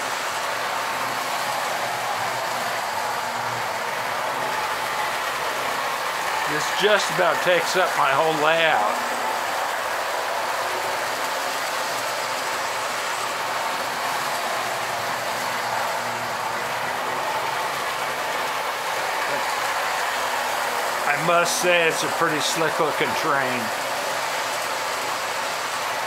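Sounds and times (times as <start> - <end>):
toy train whir and rumble: 0.0 - 26.0.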